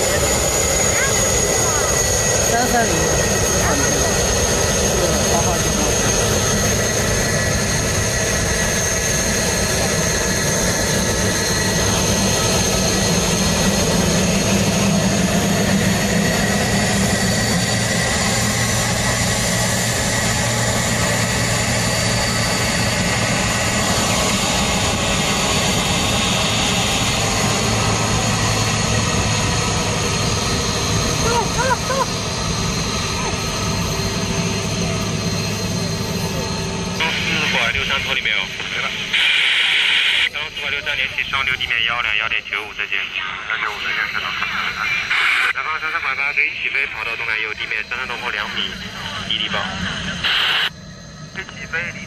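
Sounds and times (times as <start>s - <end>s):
jet engines droning: 0.0s - 52.0s.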